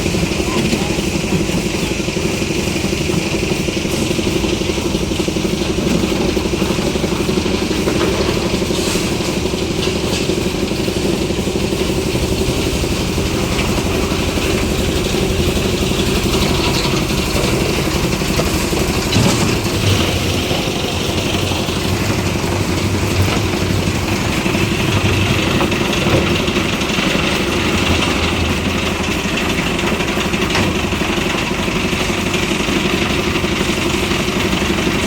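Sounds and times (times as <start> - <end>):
concrete mixer engine running: 0.0 - 35.0.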